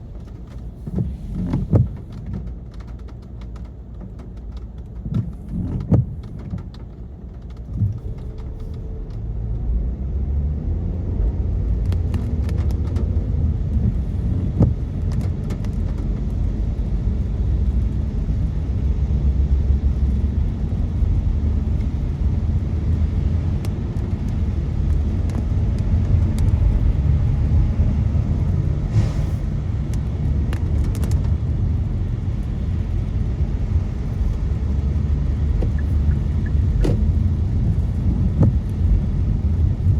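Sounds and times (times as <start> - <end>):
tyres and engine rumble: 0.0 - 39.9.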